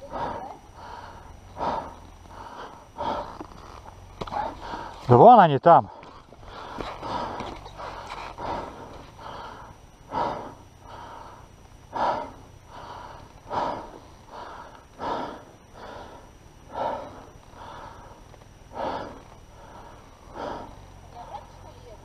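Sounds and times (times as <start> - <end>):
person breathing hard: 0.0 - 3.5, 4.2 - 5.1, 5.9 - 20.9.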